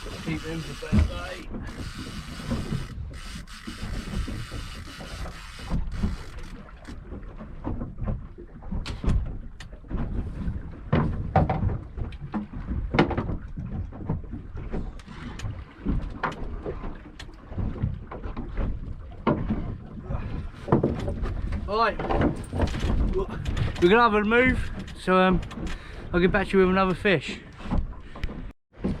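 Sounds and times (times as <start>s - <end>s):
knocks and clunks on boat: 0.0s - 29.0s.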